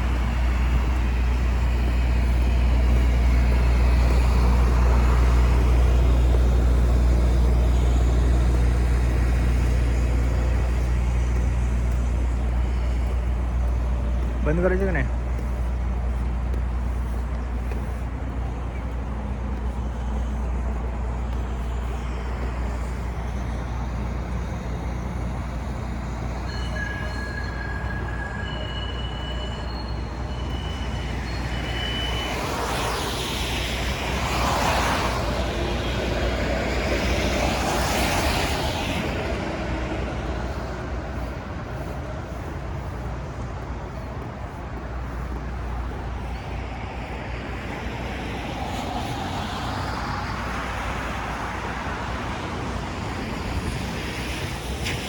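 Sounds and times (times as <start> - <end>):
traffic rumble: 0.0 - 55.0
vehicles passing by: 0.0 - 55.0.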